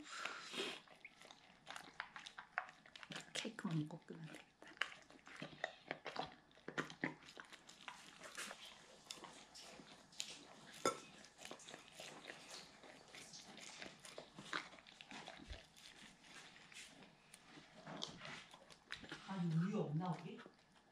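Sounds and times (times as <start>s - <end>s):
dog chewing and licking: 0.0s - 20.9s.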